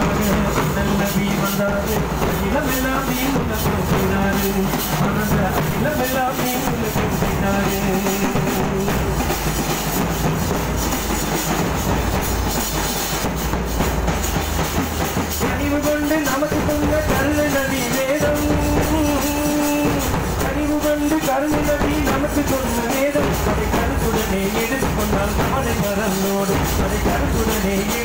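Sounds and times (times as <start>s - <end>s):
bass and snare drums: 0.0s - 28.0s.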